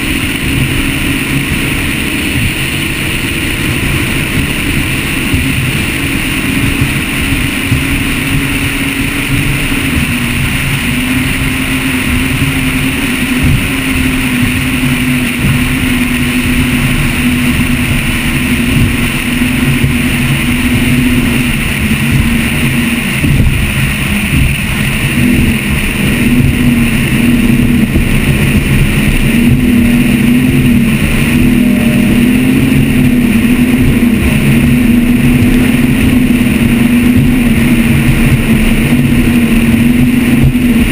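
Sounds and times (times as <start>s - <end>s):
boat engines droning: 0.0s - 40.9s.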